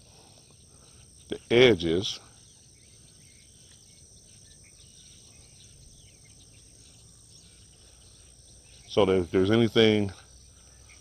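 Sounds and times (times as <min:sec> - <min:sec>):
faint bird chirps: 0:00.0 - 0:11.0
insect chorus: 0:00.0 - 0:11.0.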